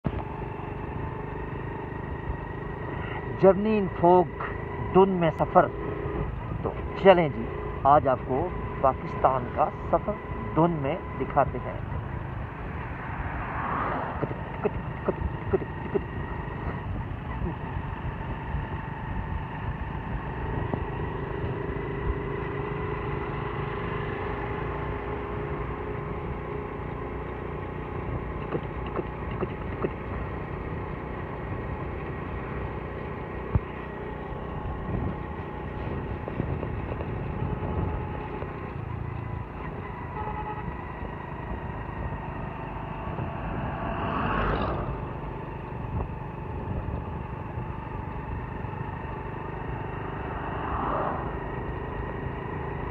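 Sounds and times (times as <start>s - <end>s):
tyre and road noise: 0.0s - 52.9s
vehicle engine running: 0.0s - 52.9s.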